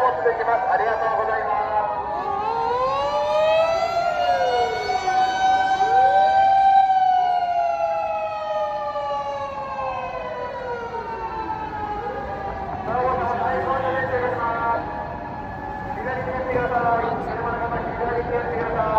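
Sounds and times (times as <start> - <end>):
fire engine siren wailing: 0.0 - 18.9
other siren wails: 0.0 - 18.9.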